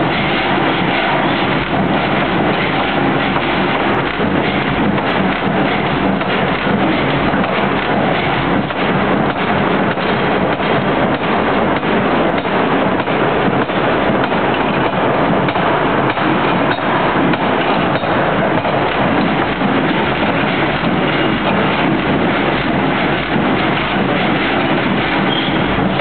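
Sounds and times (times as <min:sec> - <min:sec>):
forging hammer clatter: 0:00.0 - 0:26.0.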